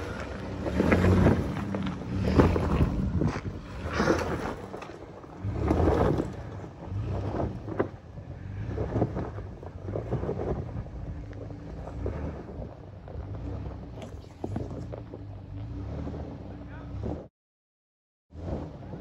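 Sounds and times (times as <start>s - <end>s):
wind buffeting microphone: 0.0s - 15.9s
engine working under load: 0.0s - 17.3s.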